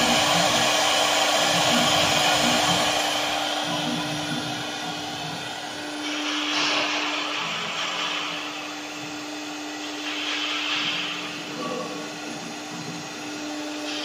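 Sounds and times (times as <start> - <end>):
hissing cutting noise: 0.0 - 14.0
router spindle whine: 0.0 - 14.0.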